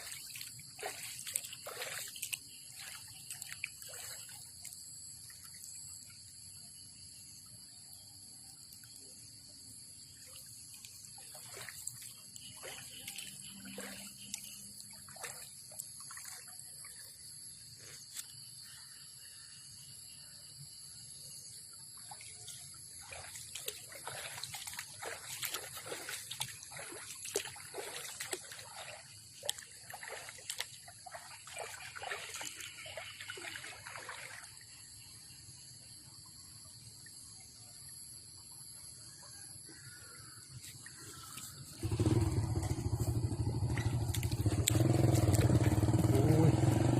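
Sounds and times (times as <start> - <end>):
water splashing and trickling: 0.0 - 7.3, 7.9 - 19.0, 20.9 - 46.9.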